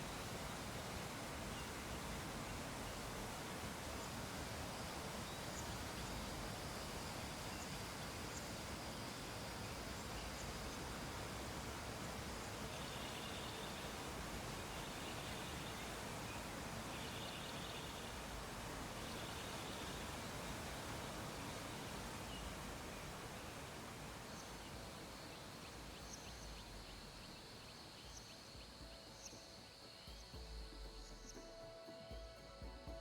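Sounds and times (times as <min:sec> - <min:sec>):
low background hiss: 0:00.0 - 0:33.0.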